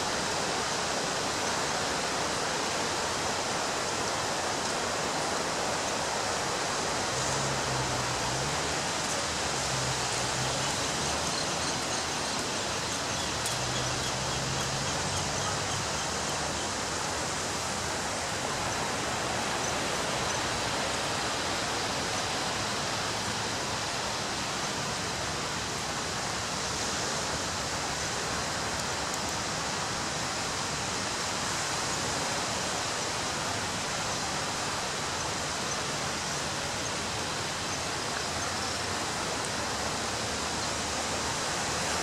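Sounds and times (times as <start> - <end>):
ocean waves breaking on beach: 0.0 - 42.0.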